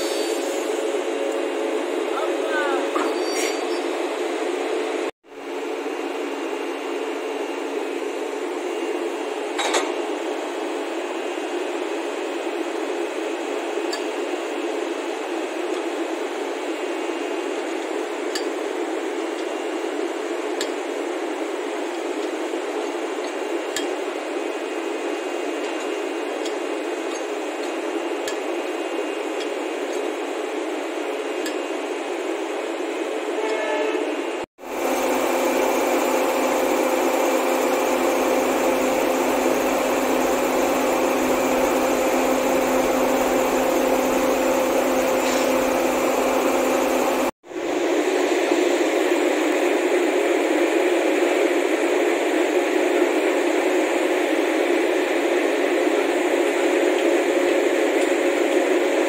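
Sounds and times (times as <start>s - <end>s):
electric locomotive humming: 10.2s - 59.0s.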